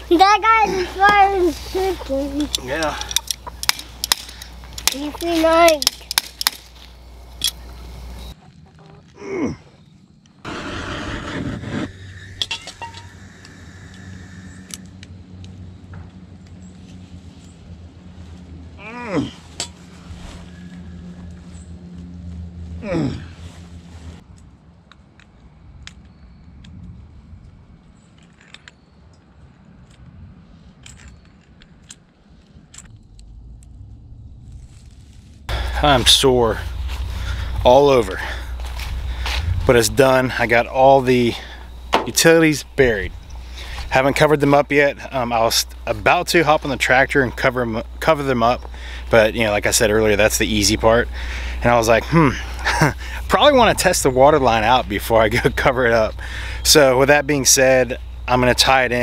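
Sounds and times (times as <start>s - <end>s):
low steady rumble: 9.9s - 59.0s.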